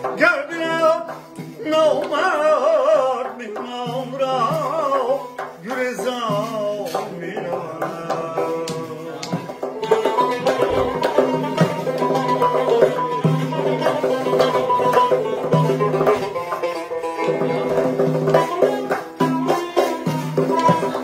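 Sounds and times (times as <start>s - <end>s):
frame drum: 0.0s - 21.0s
man singing: 0.0s - 21.0s
plucked lute: 0.0s - 21.0s.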